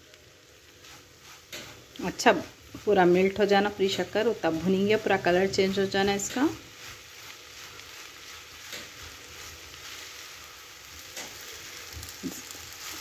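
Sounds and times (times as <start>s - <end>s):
food sizzling in a pan: 0.0s - 13.0s
spatula stirring and scraping: 0.6s - 13.0s.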